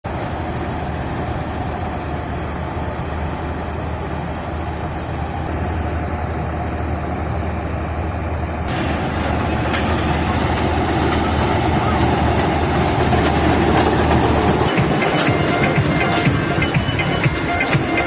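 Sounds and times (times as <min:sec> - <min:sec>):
combine harvester running: 0:00.1 - 0:18.0.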